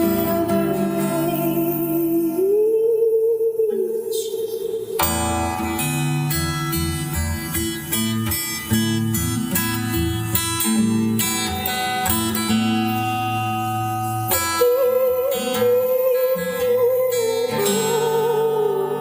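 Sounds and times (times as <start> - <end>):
acoustic guitar strumming chords: 0.0 - 2.6, 4.6 - 19.0
wavering held melody line: 0.0 - 19.0.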